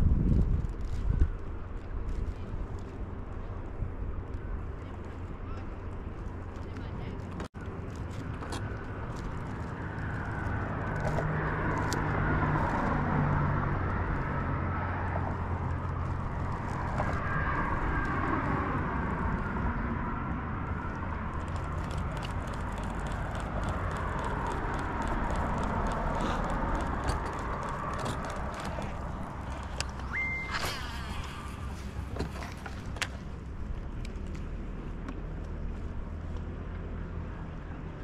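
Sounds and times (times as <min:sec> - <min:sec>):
vehicles passing on bridge: 0:00.0 - 0:38.0.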